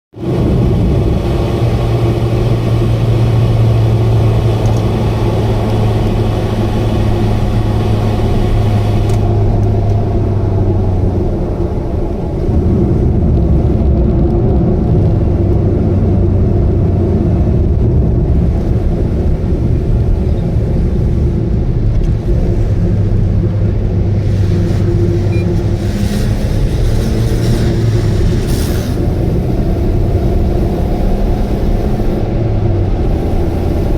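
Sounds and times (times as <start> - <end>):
car engine drone: 0.1 - 33.9
road noise: 0.1 - 33.9
strong low hum: 0.2 - 33.9.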